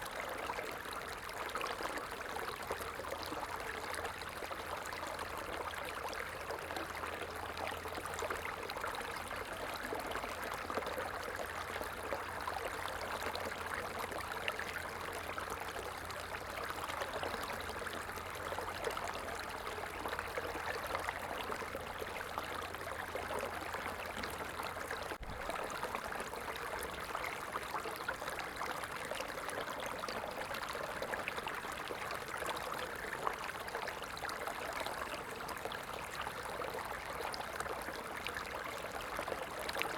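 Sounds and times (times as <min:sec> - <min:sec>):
running water rushing and trickling: 0:00.0 - 0:39.9.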